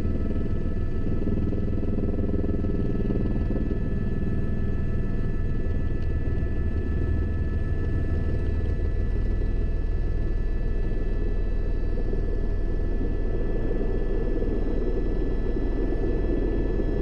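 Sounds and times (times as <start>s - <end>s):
helicopter engine whine: 0.0s - 17.0s
rotor drone: 0.0s - 17.0s.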